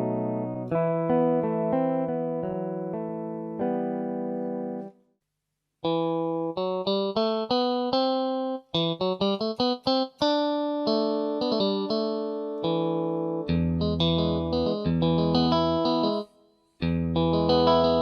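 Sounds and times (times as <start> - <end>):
keyboard guitar tone notes: 0.0 - 4.9, 5.8 - 18.0.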